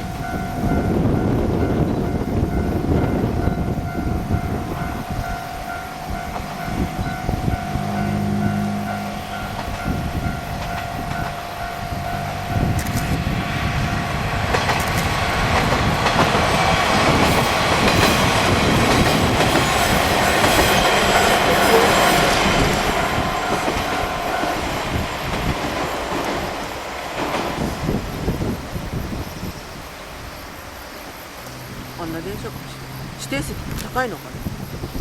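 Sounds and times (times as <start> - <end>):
train wheels clacking on rails: 0.0 - 34.3.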